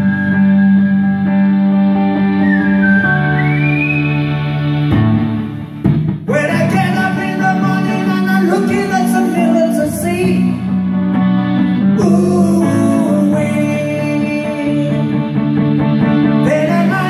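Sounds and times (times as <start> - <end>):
live rock band playing ballad: 0.0 - 17.0
wavering lead melody: 0.0 - 17.0.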